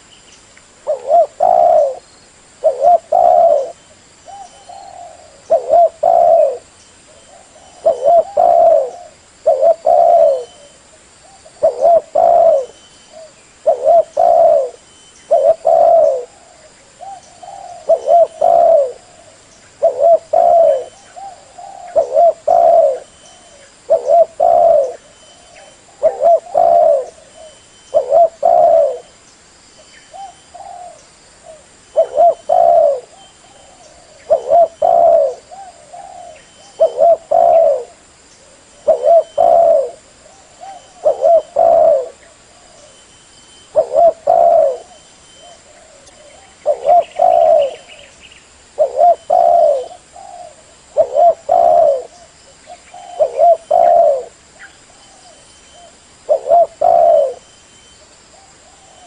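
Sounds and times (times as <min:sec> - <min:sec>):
dove cooing: 0:00.8 - 0:29.2, 0:30.1 - 0:59.0.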